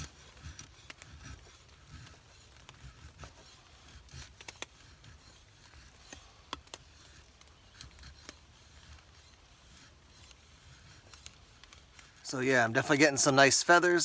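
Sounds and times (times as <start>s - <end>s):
knife shaving wood: 0.0s - 14.0s.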